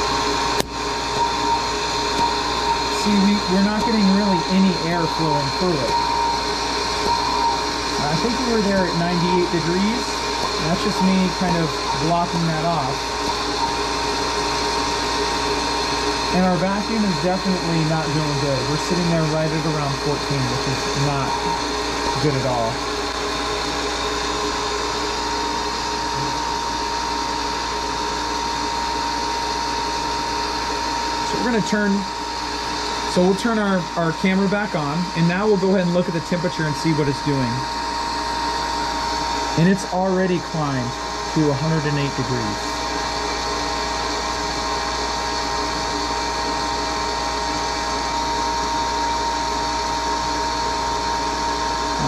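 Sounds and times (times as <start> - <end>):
vacuum pump whining: 0.0 - 52.0.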